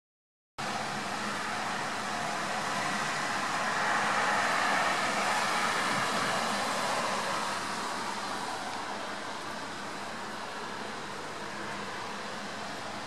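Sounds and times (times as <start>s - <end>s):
outdoor noise hiss: 0.6s - 13.0s.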